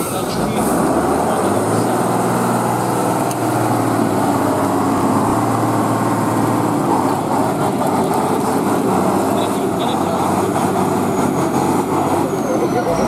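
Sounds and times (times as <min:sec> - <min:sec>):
truck engine running loudly: 0:00.0 - 0:13.0.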